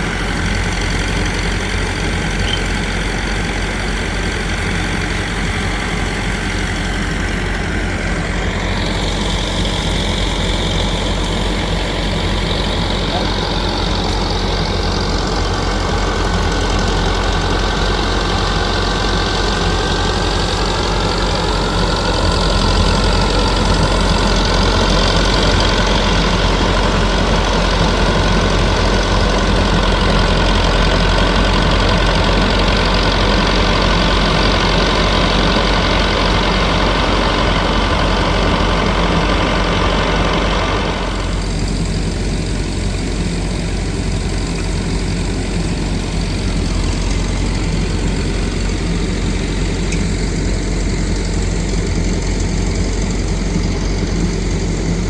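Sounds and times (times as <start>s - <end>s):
engine running loudly: 0.0s - 55.0s.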